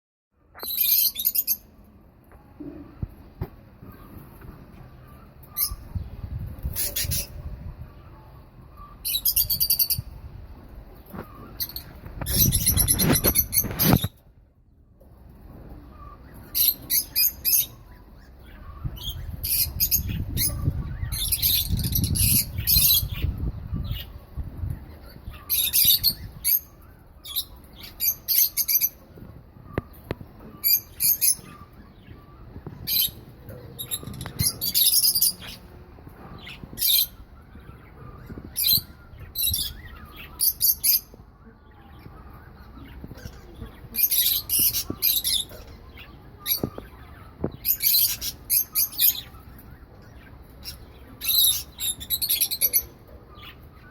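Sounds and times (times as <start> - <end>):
birds squawking and chirping: 0.5 - 14.4, 15.0 - 53.9.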